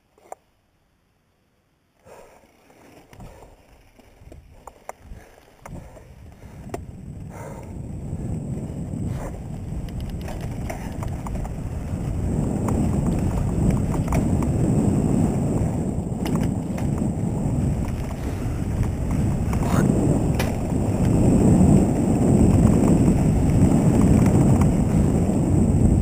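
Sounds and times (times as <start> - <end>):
bike tyres rumbling on dirt: 2.1 - 26.0
bike clicking and rattling: 2.7 - 26.0
wind on microphone: 3.2 - 26.0.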